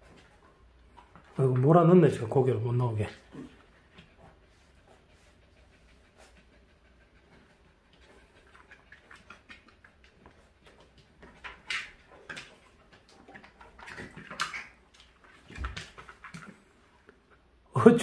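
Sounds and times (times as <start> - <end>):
dog paws pattering on vinyl floor: 0.0 - 18.0.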